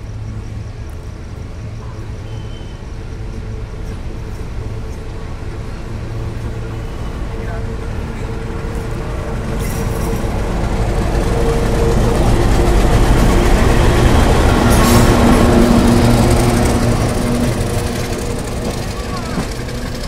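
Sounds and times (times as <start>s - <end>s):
diesel locomotive rumble and drone: 0.0s - 20.0s.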